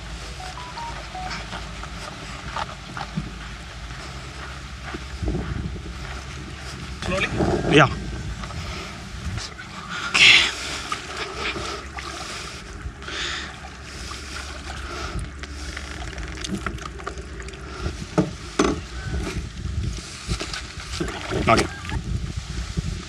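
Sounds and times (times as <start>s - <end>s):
wind rumble on microphone: 1.6s - 23.0s.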